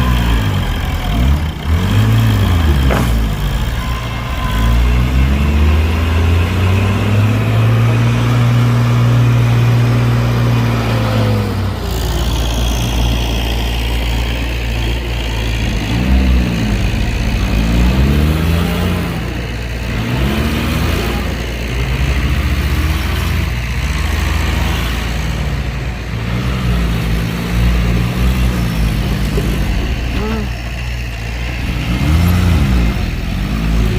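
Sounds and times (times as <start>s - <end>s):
heavy diesel engine revving: 0.0s - 33.9s.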